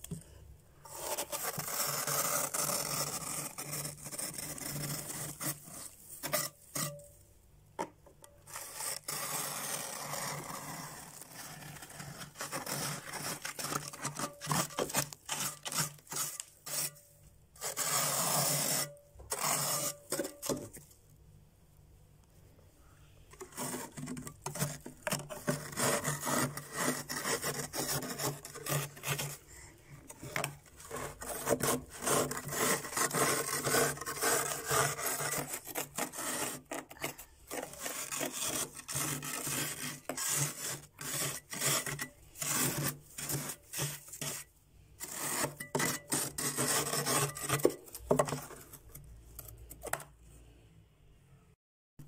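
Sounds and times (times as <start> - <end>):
spatula scraping ice: 0.9 - 7.2, 8.5 - 20.8, 23.3 - 50.0.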